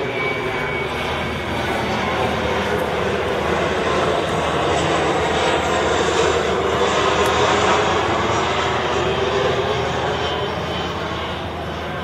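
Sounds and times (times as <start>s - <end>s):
jet airliner passing overhead: 0.0s - 12.0s.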